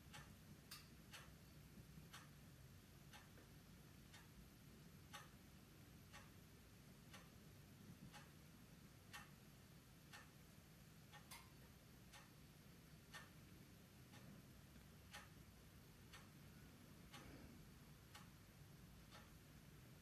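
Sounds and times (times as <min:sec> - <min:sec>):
clock ticking: 0:00.0 - 0:20.0
low room hum: 0:00.0 - 0:20.0.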